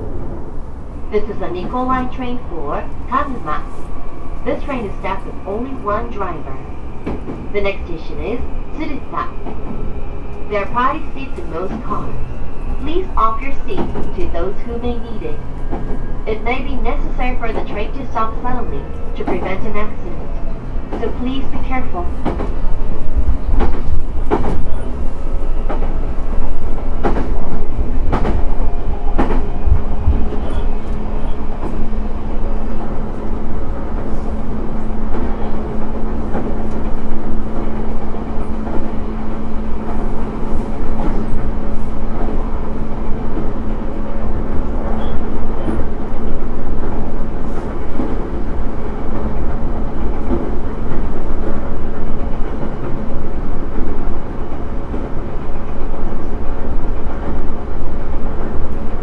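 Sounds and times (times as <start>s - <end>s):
low rumble of wheels on rail: 0.0s - 59.0s.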